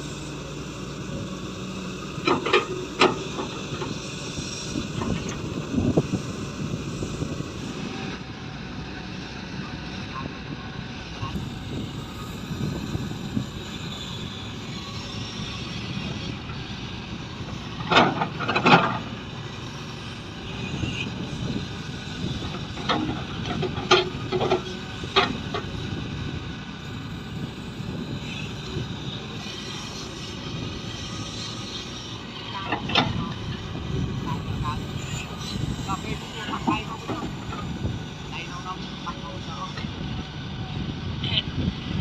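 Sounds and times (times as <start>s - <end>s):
excavator engine running: 0.0s - 42.0s.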